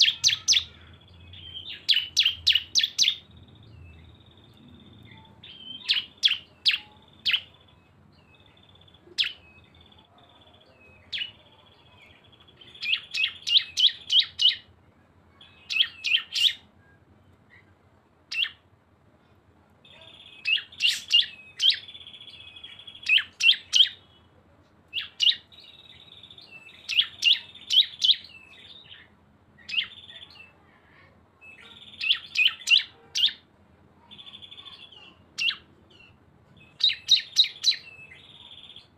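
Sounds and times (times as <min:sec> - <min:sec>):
bird sharp chirps: 0:00.0 - 0:14.7, 0:15.4 - 0:17.7, 0:19.8 - 0:24.2, 0:24.9 - 0:30.6, 0:31.4 - 0:33.4, 0:34.1 - 0:38.9.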